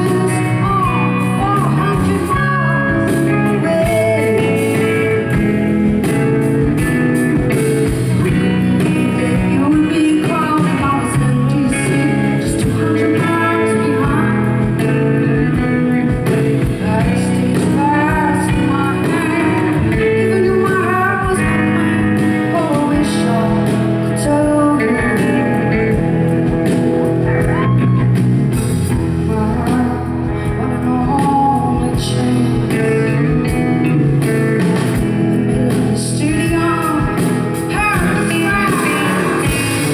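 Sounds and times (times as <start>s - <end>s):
amplified electric guitar: 0.0s - 39.9s
woman singing into microphone: 0.0s - 39.9s.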